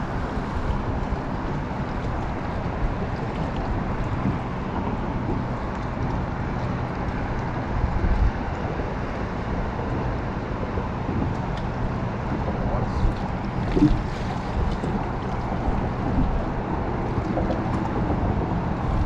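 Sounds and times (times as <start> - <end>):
water noise: 0.0 - 19.0
wind rumble on microphone: 0.0 - 19.0.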